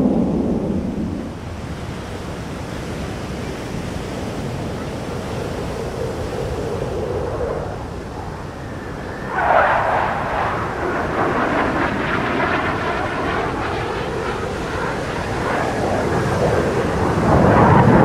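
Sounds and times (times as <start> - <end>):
fighter jet engine: 0.0 - 18.0.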